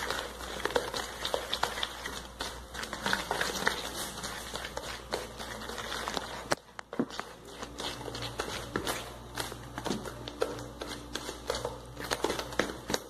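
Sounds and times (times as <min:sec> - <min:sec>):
spatula stirring thick batter: 0:00.0 - 0:13.0.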